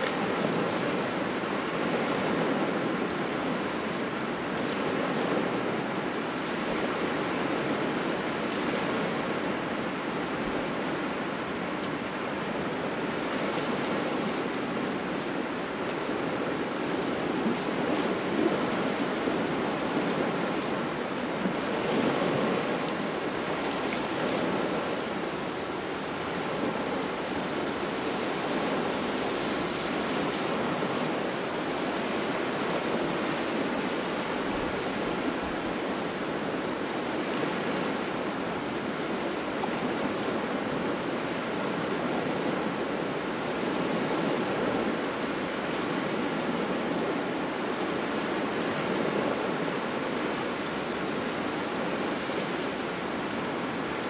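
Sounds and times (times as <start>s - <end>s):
small waves washing on shore: 0.0s - 54.0s.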